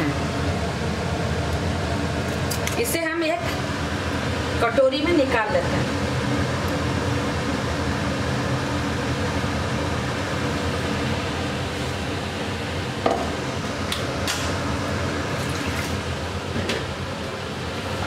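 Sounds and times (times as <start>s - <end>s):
machine whirring hum: 0.0s - 18.0s.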